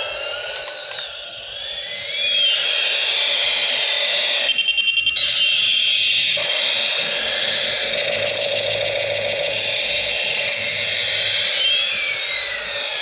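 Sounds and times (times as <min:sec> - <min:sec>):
toy siren-like wailing tone: 0:00.0 - 0:13.0.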